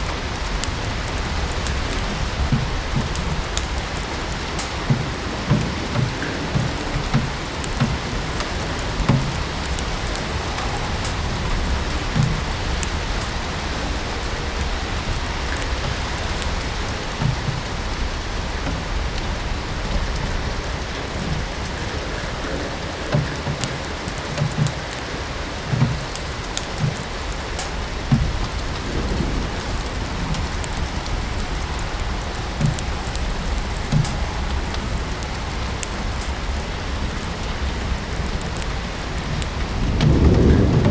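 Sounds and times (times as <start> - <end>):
steady rain hiss: 0.0 - 40.9
wood fire crackling: 0.0 - 40.9.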